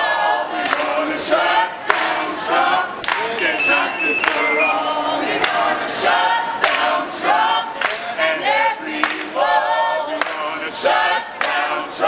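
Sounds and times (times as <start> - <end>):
mixed choir singing unaccompanied: 0.0 - 12.0.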